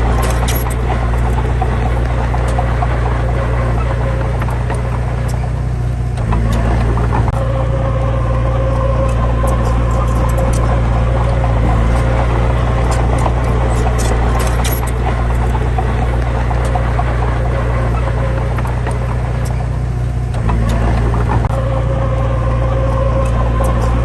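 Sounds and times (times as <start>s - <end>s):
heavy diesel engine drone: 0.0s - 24.0s.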